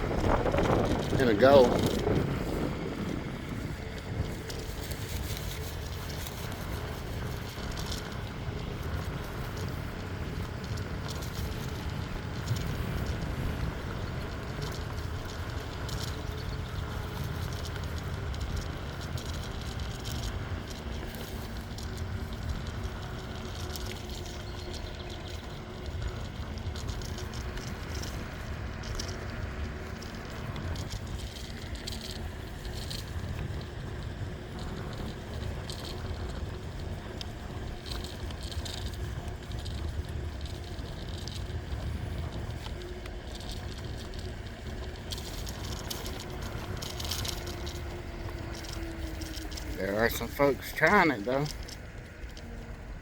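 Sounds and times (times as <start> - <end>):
bicycle tyres rolling: 0.0 - 53.0.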